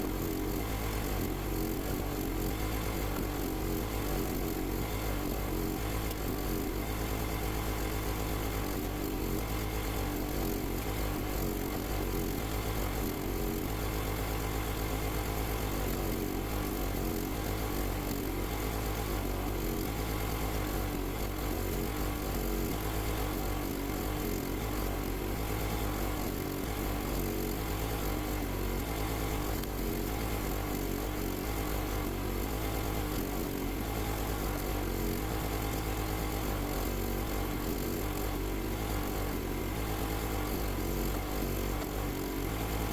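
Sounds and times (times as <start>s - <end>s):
small engine droning: 0.0s - 42.9s.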